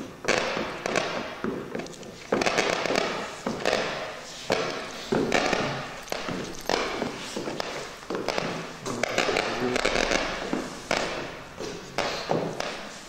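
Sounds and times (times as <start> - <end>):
crackling noise bursts from loudspeaker: 2.4 - 13.0.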